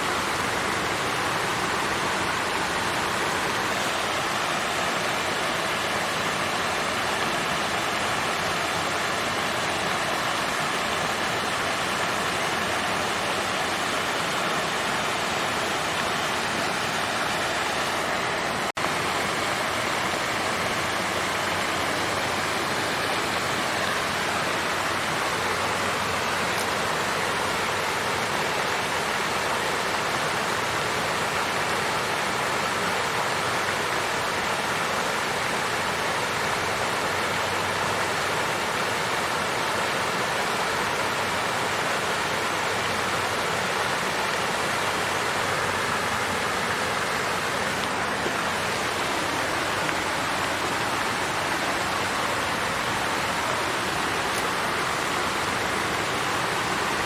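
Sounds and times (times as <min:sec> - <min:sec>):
water fountain splashing: 0:00.0 - 0:57.0.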